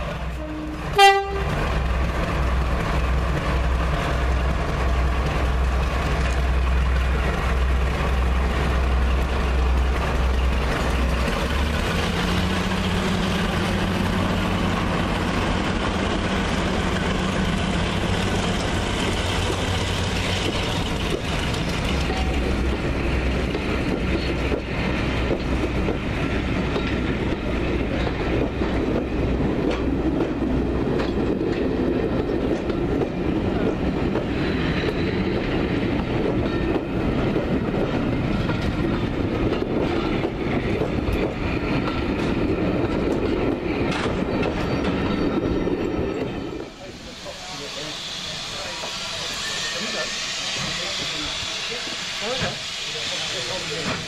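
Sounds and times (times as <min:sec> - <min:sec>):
train wheels clicking over rail joints: 0:00.9 - 0:47.0, 0:47.6 - 0:54.0.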